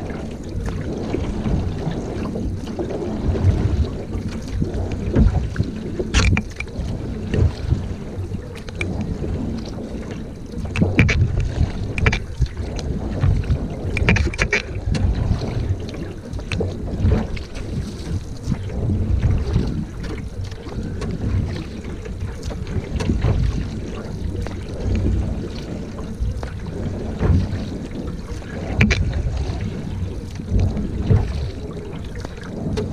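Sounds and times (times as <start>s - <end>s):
paddle splashing in water: 0.0s - 32.9s
wind buffeting microphone: 0.0s - 32.9s.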